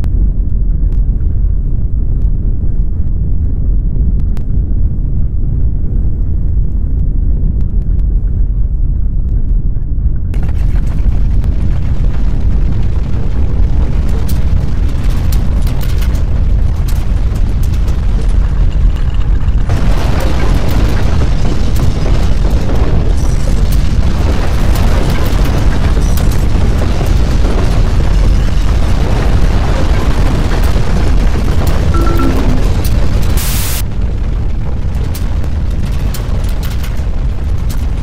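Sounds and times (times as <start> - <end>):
deep earthquake rumble: 0.0 - 38.0.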